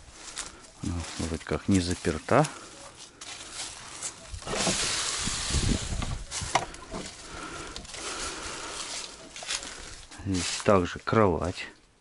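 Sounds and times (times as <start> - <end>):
rustling and scraping: 0.0 - 11.1.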